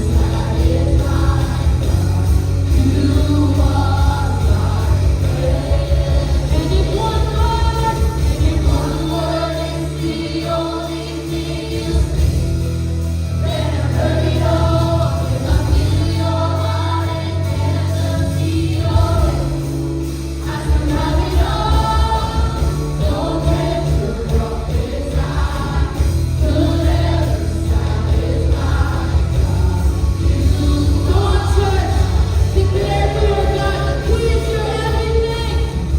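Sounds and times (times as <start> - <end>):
band playing worship music: 0.0 - 35.9
group of voices singing: 0.0 - 35.9
steady bass: 0.0 - 35.9.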